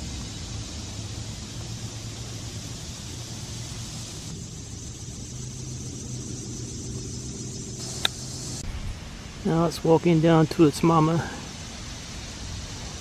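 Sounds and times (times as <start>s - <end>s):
distant road traffic rumble: 0.0s - 13.0s
even hiss: 0.0s - 13.0s.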